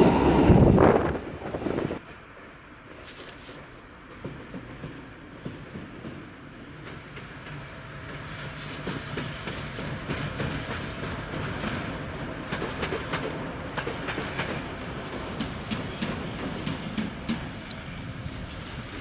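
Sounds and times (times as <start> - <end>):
diesel locomotive engine drone: 0.0 - 19.0
wheels clicking over rail joints: 0.0 - 19.0.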